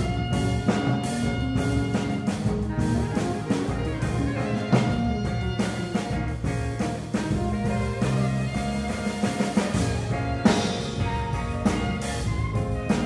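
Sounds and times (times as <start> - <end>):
drum kit: 0.0 - 13.0
electric bass: 0.0 - 13.0
electric guitar: 0.0 - 13.0
keyboard: 0.0 - 13.0
saxophones: 0.0 - 13.0.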